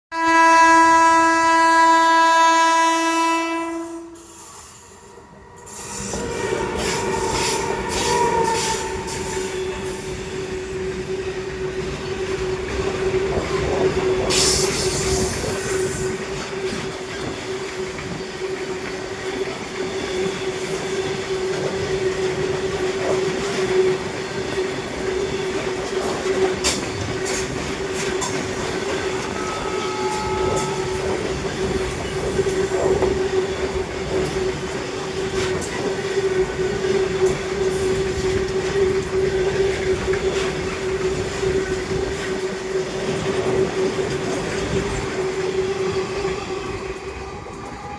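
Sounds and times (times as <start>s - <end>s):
locomotive whine: 0.2s - 47.9s.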